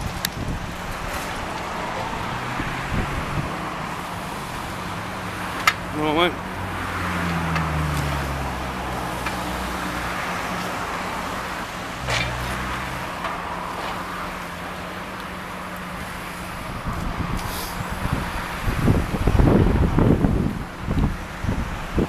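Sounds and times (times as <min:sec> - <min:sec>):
street traffic engine hum: 0:00.0 - 0:22.0.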